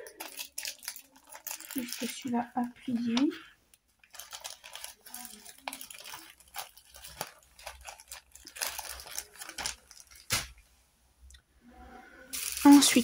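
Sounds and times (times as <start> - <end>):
plastic bags rustling: 0.0 - 10.6, 12.3 - 13.0.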